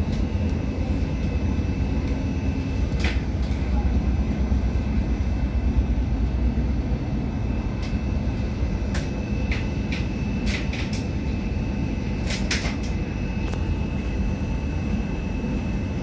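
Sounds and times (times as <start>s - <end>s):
faint constant whine: 0.0s - 16.0s.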